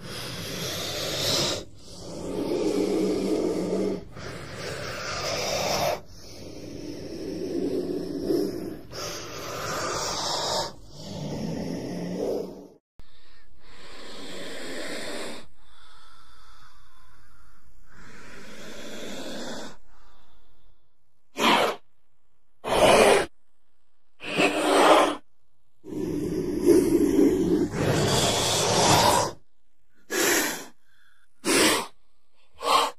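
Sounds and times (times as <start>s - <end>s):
snake hissing: 0.0s - 12.8s, 13.6s - 20.7s, 21.3s - 21.9s, 22.6s - 23.3s, 24.2s - 25.2s, 25.8s - 32.9s.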